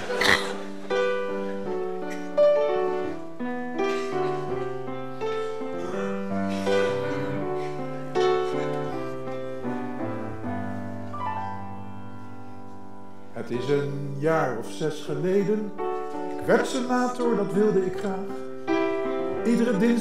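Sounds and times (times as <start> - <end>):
solo grand piano: 0.0 - 20.0.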